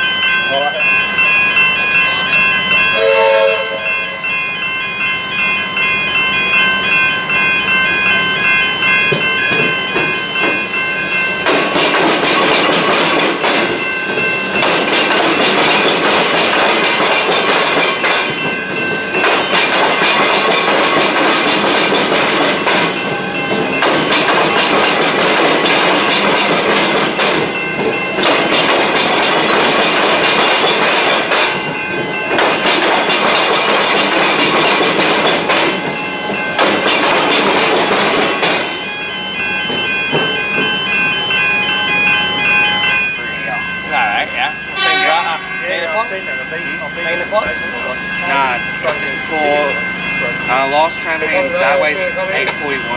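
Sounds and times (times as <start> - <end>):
high steady tones: 0.0 - 52.9
train wheels clattering on rail: 7.7 - 52.9.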